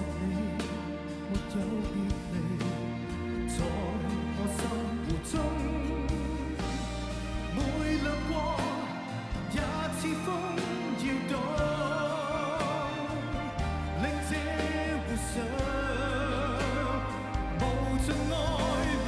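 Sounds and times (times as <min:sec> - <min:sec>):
band accompaniment: 0:00.0 - 0:19.0
bass notes: 0:00.0 - 0:19.0
man singing pop ballad: 0:00.0 - 0:19.0.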